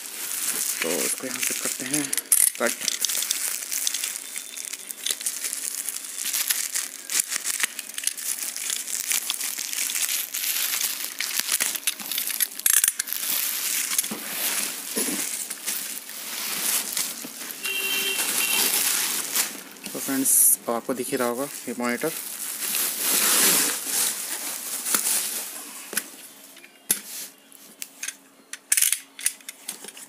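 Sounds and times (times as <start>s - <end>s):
bubble wrap crinkling: 0.0s - 27.9s.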